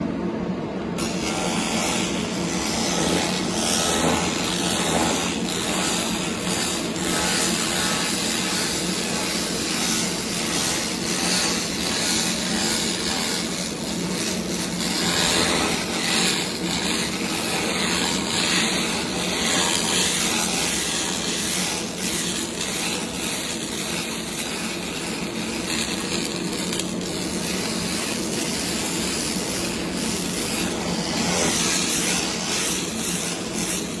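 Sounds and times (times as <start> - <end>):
steady low hum: 0.0 - 34.0
laser cleaner hissing crackle: 1.0 - 34.0.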